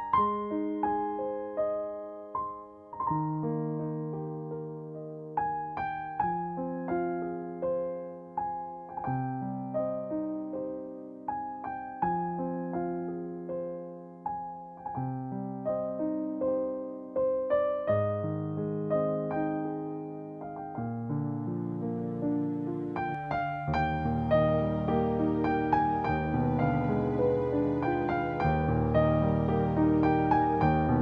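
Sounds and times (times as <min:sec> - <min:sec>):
solo piano piece: 0:00.0 - 0:31.0.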